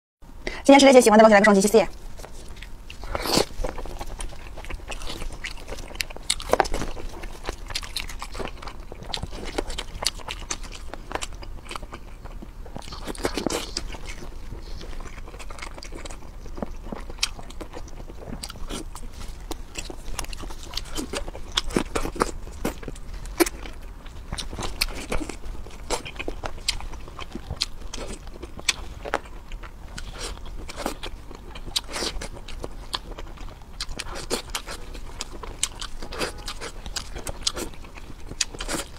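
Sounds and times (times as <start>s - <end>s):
person chewing food: 1.9s - 38.9s.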